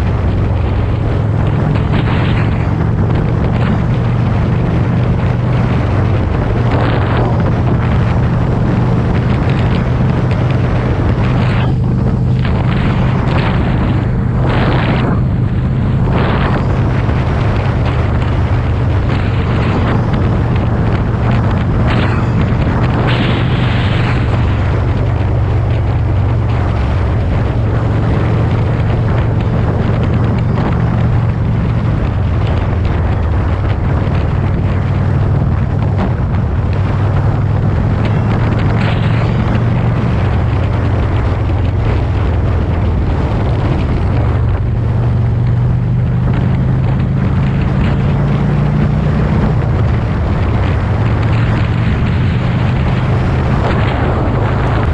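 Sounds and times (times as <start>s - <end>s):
motorcycle engine running: 0.0s - 54.9s
wind noise on microphone: 0.0s - 54.9s.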